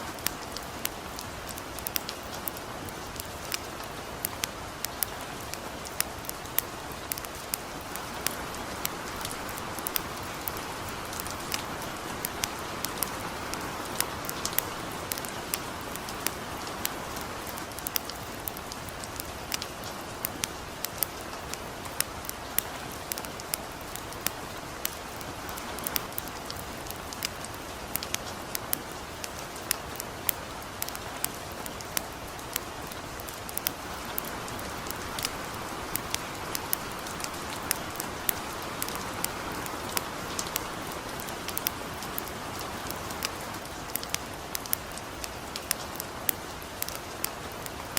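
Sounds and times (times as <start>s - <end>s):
light rain hissing: 0.0s - 47.9s
campfire crackling and popping: 0.1s - 47.9s.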